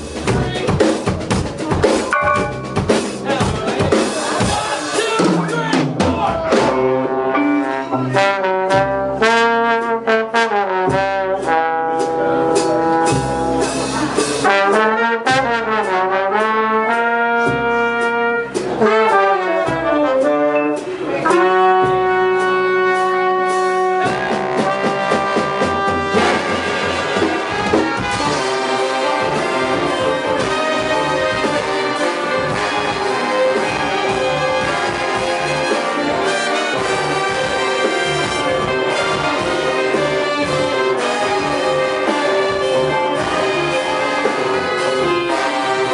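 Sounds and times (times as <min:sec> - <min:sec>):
ensemble playing instrumental piece: 0:02.0 - 0:05.8, 0:06.4 - 0:45.9.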